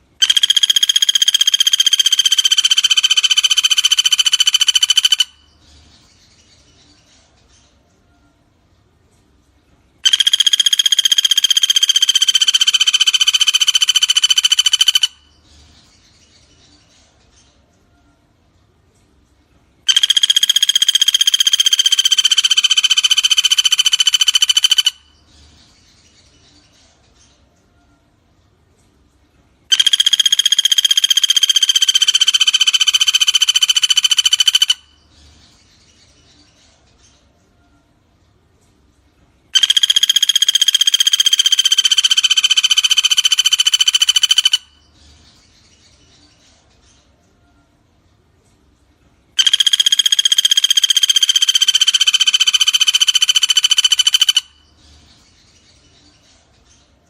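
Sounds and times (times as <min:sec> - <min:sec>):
woodpecker trill: 0:00.0 - 0:06.9, 0:10.0 - 0:16.6, 0:19.8 - 0:28.0, 0:29.6 - 0:37.9, 0:39.5 - 0:47.7, 0:49.3 - 0:56.9.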